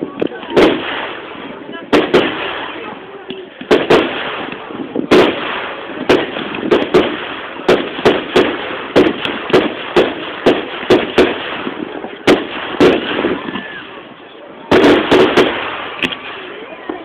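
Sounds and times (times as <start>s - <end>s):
firework shells bursting: 0.1s - 13.8s, 14.7s - 17.0s.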